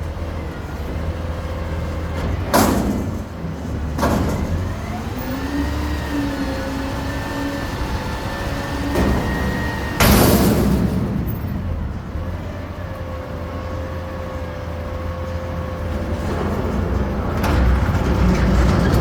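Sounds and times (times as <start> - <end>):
garbage truck engine running: 0.0 - 19.0.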